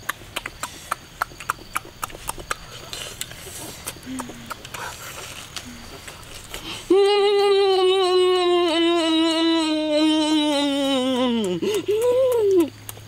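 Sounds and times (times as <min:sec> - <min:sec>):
person humming while chewing: 0:00.0 - 0:13.0.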